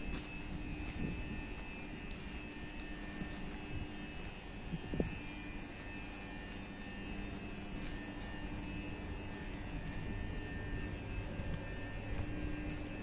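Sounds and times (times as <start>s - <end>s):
tram electric hum and whine: 0.0s - 13.0s.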